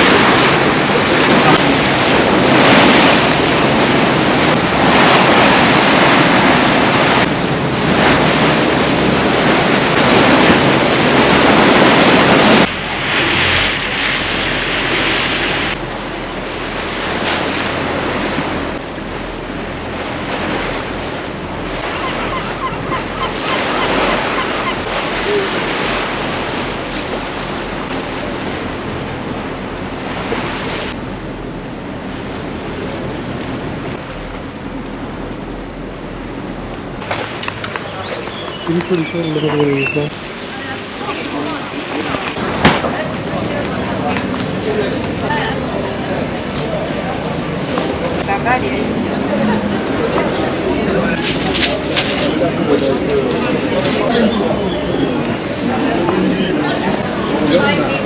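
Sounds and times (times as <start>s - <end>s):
sea water rushing past boat: 0.0s - 58.0s.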